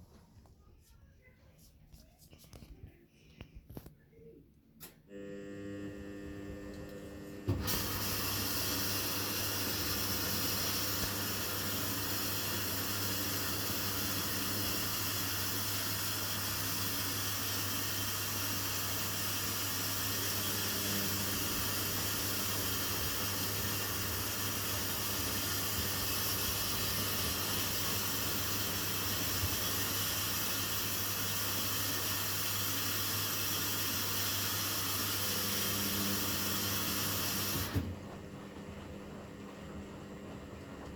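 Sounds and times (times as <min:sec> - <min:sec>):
water hissing into washing machine: 0:06.1 - 0:40.5.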